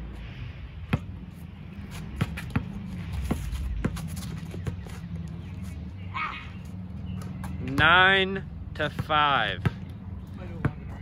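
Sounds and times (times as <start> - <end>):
basketball bouncing on asphalt: 0.8 - 5.8, 6.6 - 11.0.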